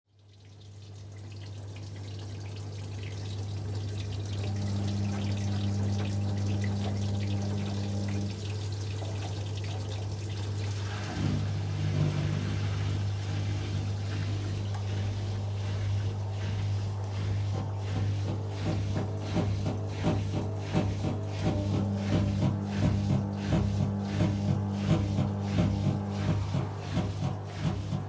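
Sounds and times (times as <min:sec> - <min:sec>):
water trickling and draining: 0:00.1 - 0:28.0
washing machine motor hum: 0:00.7 - 0:28.0.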